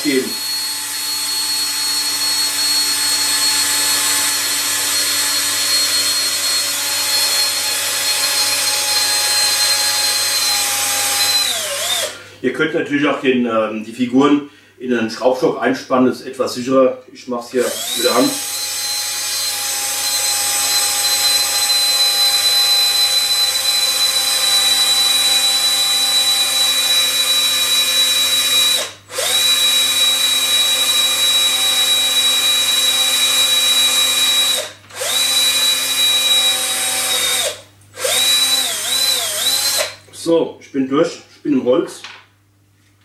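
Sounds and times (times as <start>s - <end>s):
cordless drill whining: 0.0s - 12.2s, 17.6s - 40.0s.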